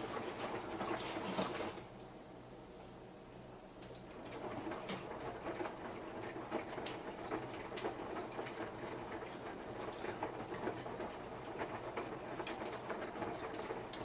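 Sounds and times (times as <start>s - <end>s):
laundry tumbling clicks and knocks: 0.0s - 1.8s, 4.2s - 14.0s
washing machine drum humming: 0.0s - 2.4s, 3.4s - 14.0s.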